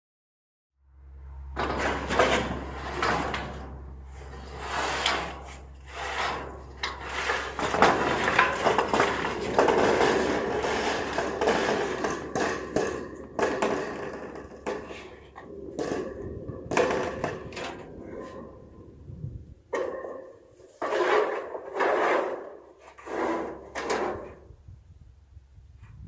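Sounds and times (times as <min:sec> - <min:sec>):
metal roofing panel scraping: 0:01.5 - 0:24.7.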